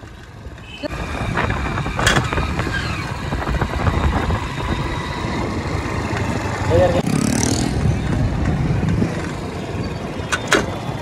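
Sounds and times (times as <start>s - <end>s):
wind buffeting microphone: 0.3s - 11.0s.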